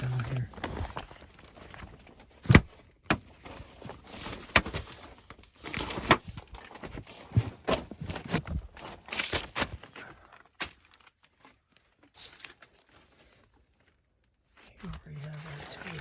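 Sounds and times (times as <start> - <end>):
knocks and scuffs of handling: 0.0 - 13.4.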